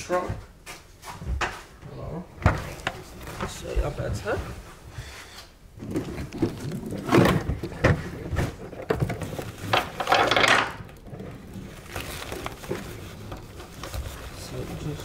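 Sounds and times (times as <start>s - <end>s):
scraping rustle: 2.5s - 15.0s.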